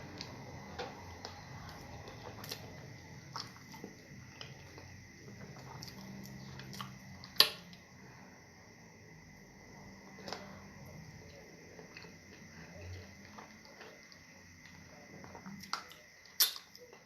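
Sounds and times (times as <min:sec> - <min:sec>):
person chewing sticky food: 0:00.1 - 0:07.8, 0:10.1 - 0:17.0.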